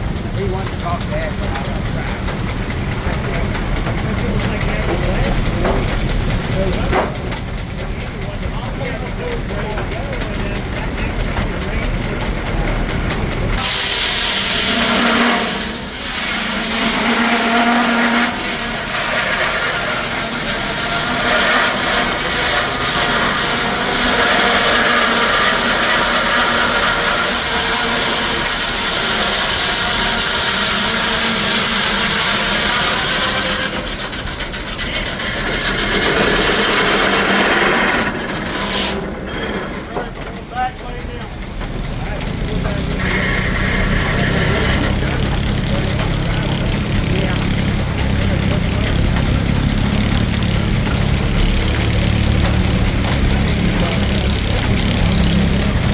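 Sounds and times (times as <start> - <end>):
circular saw cutting log: 0.0 - 55.9.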